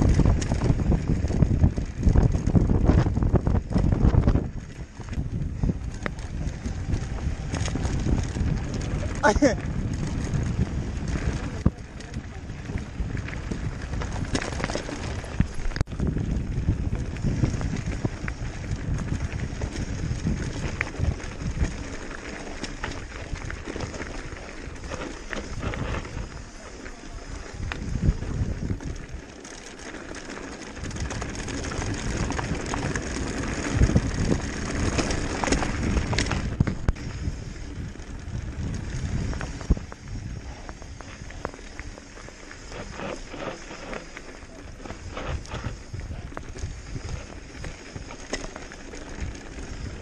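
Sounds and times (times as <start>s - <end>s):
bike rattling over rocks: 0.0s - 50.0s
tyres crunching on gravel: 0.0s - 50.0s
wind buffeting microphone: 0.0s - 50.0s.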